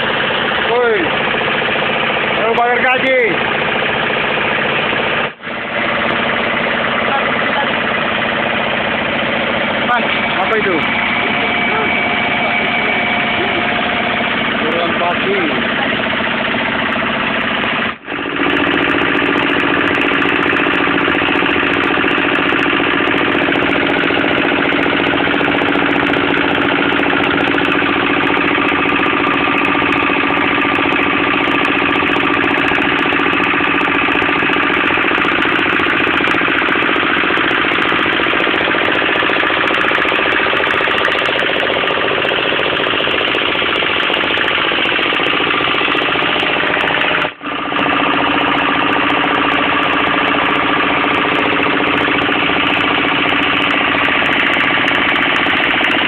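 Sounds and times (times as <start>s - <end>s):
engine-driven compressor droning: 0.0s - 56.0s.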